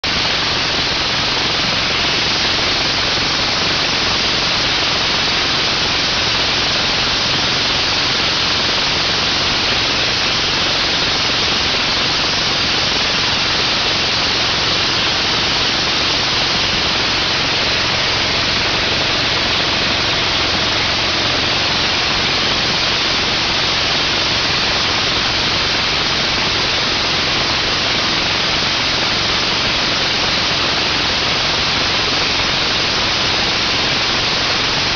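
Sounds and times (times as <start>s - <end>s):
pressure washer engine hissing: 0.0s - 34.9s.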